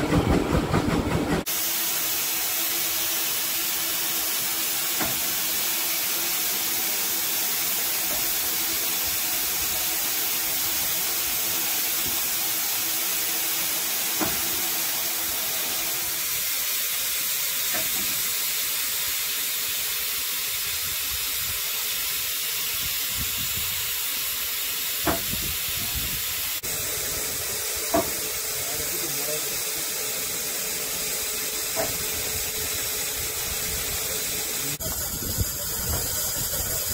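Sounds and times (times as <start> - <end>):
steam locomotive hissing: 0.0 - 36.9.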